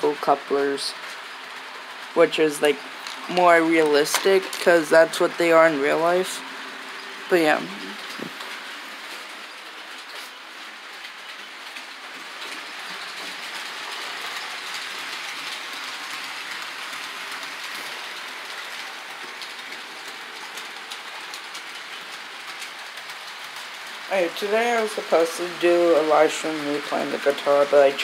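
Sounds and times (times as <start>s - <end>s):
model train whirring and rattling: 0.0s - 28.0s.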